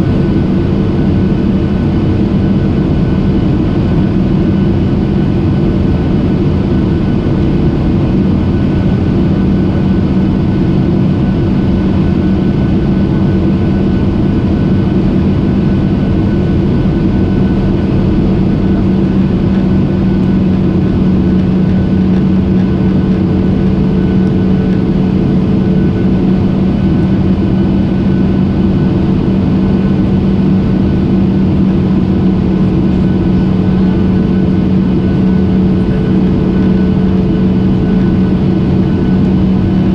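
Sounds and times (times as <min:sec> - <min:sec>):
airliner engine drone: 0:00.0 - 0:39.9
constant low hum: 0:00.0 - 0:39.9.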